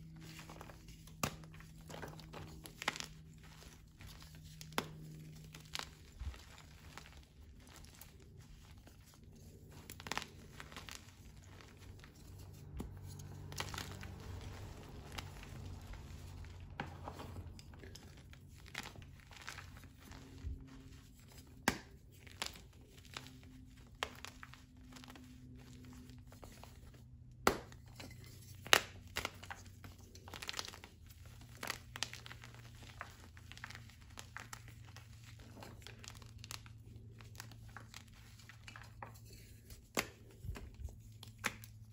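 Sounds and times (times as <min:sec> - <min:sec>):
chalk crumbling and crunching: 0:00.0 - 0:41.9
chalk pieces snapping: 0:00.3 - 0:16.8, 0:21.3 - 0:25.6, 0:27.4 - 0:27.8, 0:28.6 - 0:41.9.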